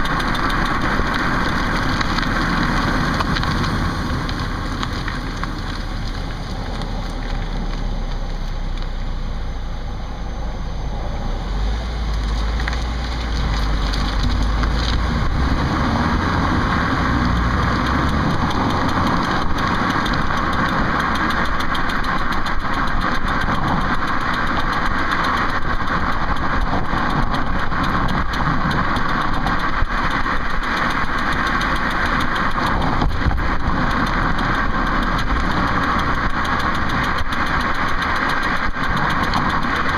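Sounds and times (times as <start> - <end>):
fast clicking from wheel: 0.0 - 8.3, 12.6 - 39.9
car engine running: 0.0 - 39.9.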